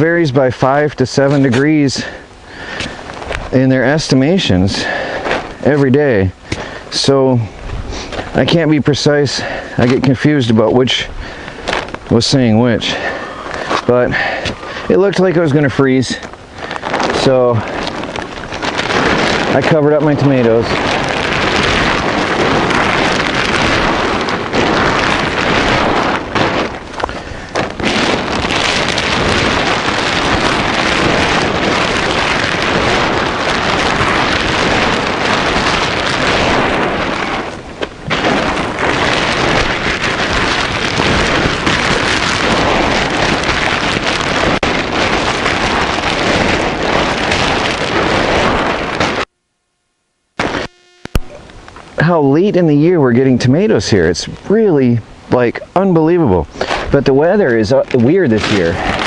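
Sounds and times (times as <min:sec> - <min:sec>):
wind buffeting microphone: 0:00.0 - 0:49.3, 0:51.2 - 0:59.0.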